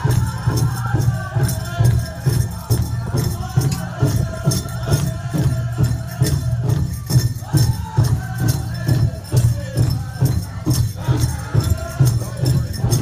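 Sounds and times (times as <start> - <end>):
big drum beat: 0.0 - 13.0
group singing: 0.0 - 13.0.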